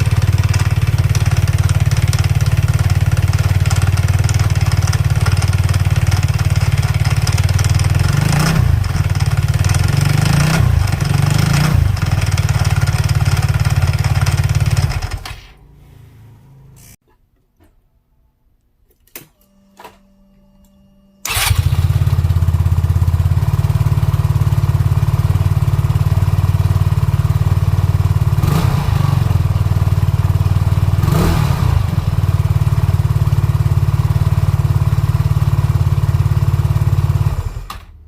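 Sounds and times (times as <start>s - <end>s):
scooter engine idling and revving: 0.0s - 17.0s, 21.2s - 38.0s.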